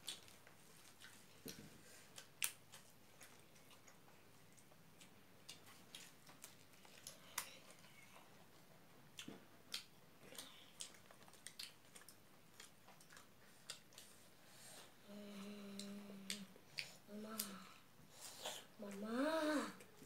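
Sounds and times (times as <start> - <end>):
chewing: 0.0 - 19.0
people eating with hands: 0.0 - 20.0.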